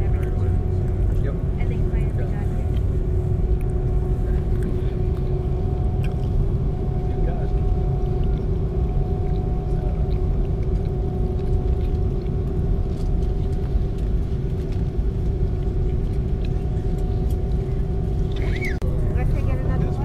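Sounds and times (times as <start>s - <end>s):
airplane taxiing rumble: 0.0s - 20.0s
jet engine hum: 0.0s - 20.0s.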